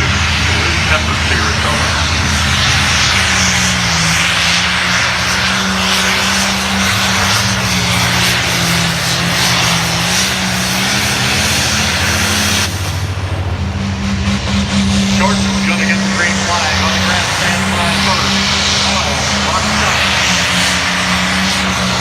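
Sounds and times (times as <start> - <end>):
diesel engine running hard: 0.0 - 22.0.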